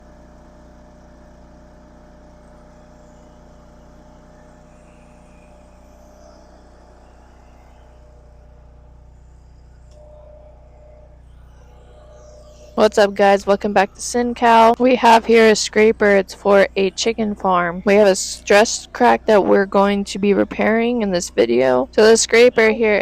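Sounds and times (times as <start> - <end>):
engine running with low hum: 0.0 - 23.0.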